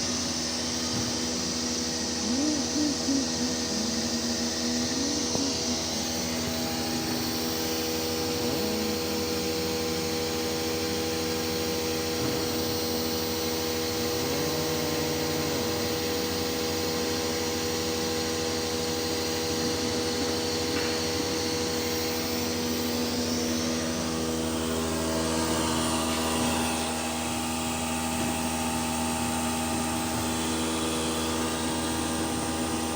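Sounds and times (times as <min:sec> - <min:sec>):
machine motor hum and whine: 0:00.0 - 0:32.9
rising and falling motor tones: 0:01.9 - 0:28.3.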